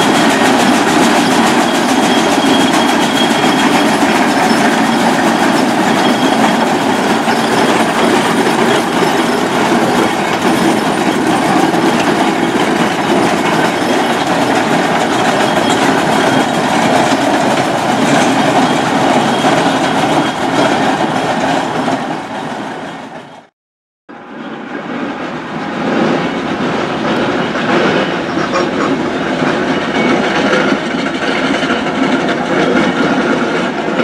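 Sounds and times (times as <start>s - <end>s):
steam road roller rumbling: 0.0s - 23.5s, 24.1s - 34.0s.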